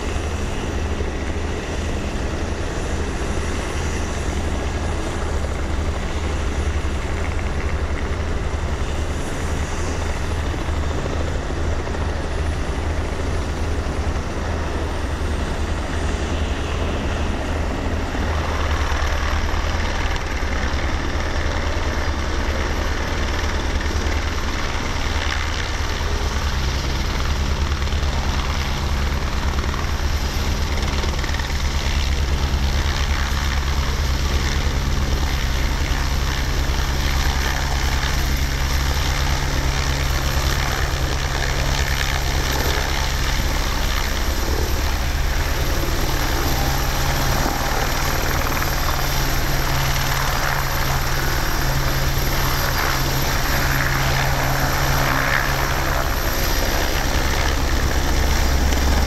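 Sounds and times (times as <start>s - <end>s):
helicopter rotor beating: 0.0s - 59.0s.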